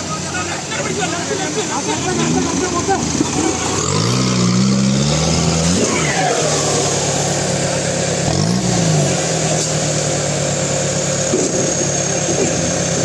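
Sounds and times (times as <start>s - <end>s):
engine revving: 0.9s - 13.0s.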